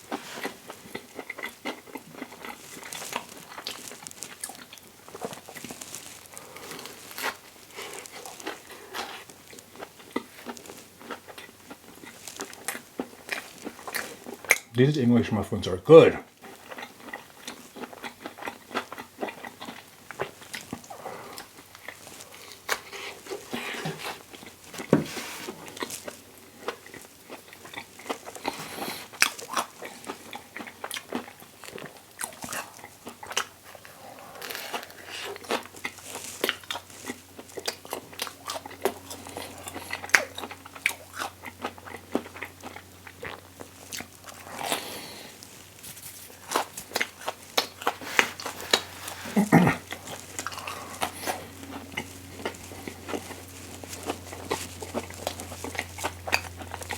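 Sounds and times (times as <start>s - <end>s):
biting and chewing crunches: 0.0s - 14.7s, 16.4s - 56.9s
faint steady hum: 0.0s - 56.9s.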